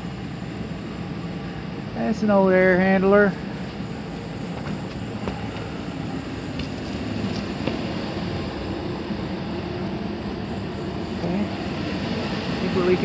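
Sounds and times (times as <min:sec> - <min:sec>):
air handler blower humming: 0:00.0 - 0:13.0.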